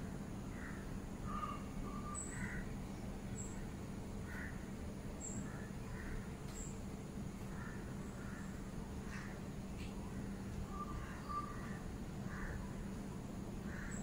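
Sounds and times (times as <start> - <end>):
steady low hum: 0.0 - 14.0
birds calling: 0.5 - 14.0.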